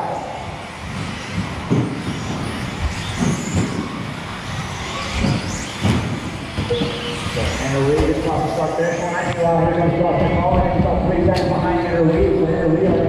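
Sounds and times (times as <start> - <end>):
cars knocking on track: 0.7 - 13.0.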